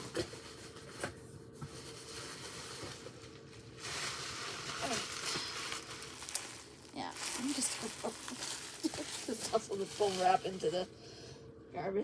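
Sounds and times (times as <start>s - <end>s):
bubble wrap rustling and crinkling: 0.0s - 10.9s.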